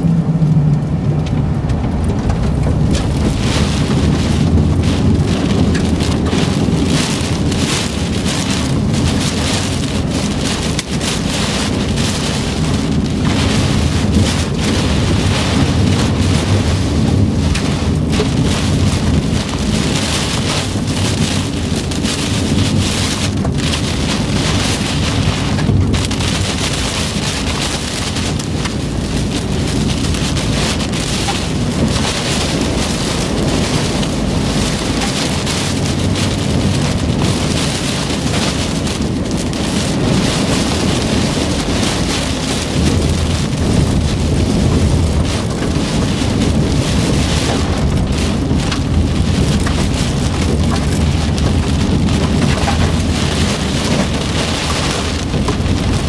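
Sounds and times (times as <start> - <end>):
heavy rain on vehicle roof: 0.0 - 56.0
low rumble: 0.0 - 56.0.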